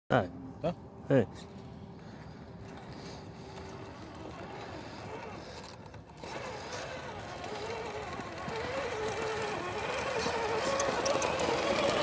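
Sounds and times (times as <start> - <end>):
toy truck electric motor whining: 2.0 - 12.0.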